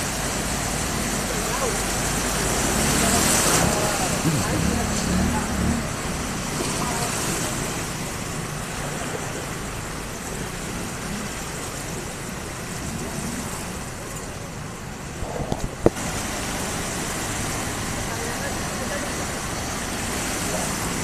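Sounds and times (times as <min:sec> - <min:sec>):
floodwater hissing: 0:00.0 - 0:21.0
traffic through flooded road: 0:00.0 - 0:21.0.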